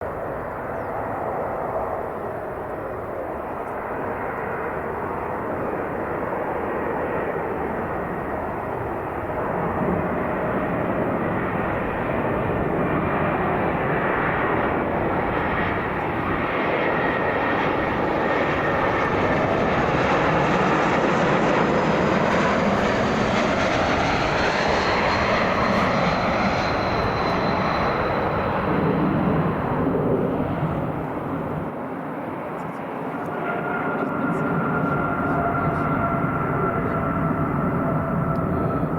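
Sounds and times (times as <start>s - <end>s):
high jet engine whine: 0.0s - 38.9s
jet engine rumble: 0.0s - 38.9s.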